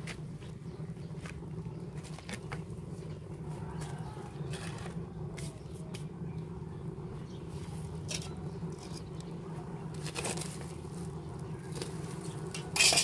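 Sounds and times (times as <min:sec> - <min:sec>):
low hum: 0:00.0 - 0:13.0
wood fire crackling: 0:00.0 - 0:13.0.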